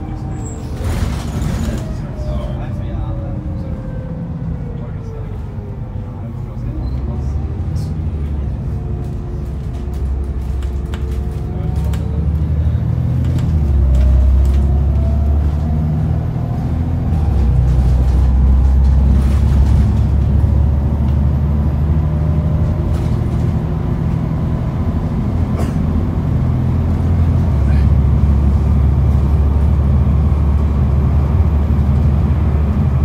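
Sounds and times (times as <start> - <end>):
bus body rattling and clicking: 0.0 - 3.7, 4.6 - 33.0
bus diesel engine running: 0.0 - 33.0
bus engine whine: 0.0 - 33.0.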